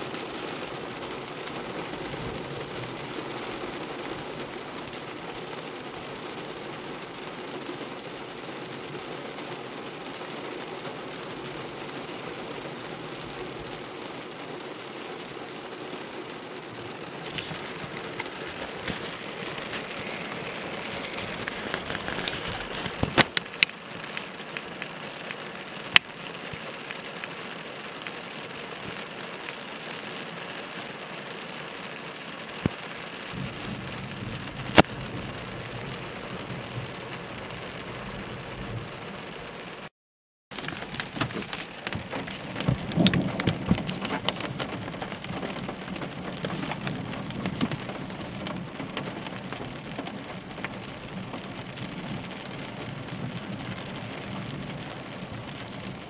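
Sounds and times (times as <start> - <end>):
heavy rain drumming on car: 0.0 - 39.9, 40.5 - 56.0.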